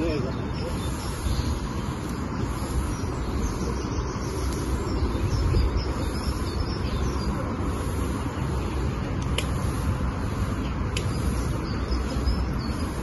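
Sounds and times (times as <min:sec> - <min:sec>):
wind on the microphone: 0:00.0 - 0:13.0.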